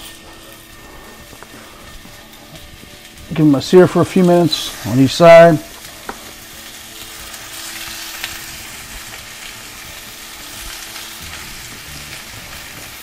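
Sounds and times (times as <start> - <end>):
pork chops sizzling in oil: 0.0 - 13.0.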